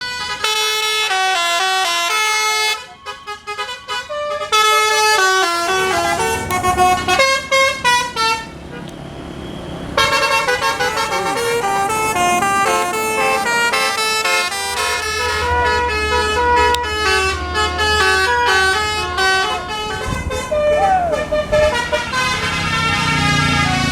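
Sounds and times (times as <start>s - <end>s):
multi-tone bus air horn tunes: 0.0s - 8.9s, 10.0s - 23.9s.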